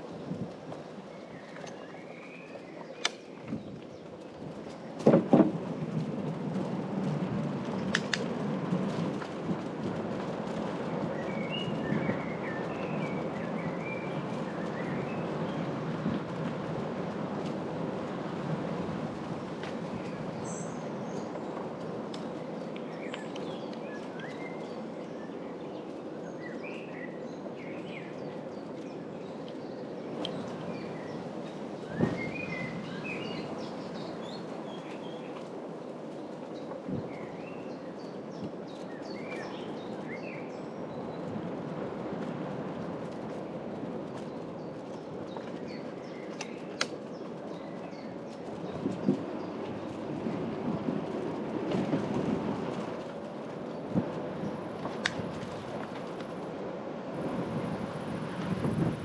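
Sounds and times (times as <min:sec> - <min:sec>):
bicycle tyres rolling on road: 0:00.0 - 0:59.0.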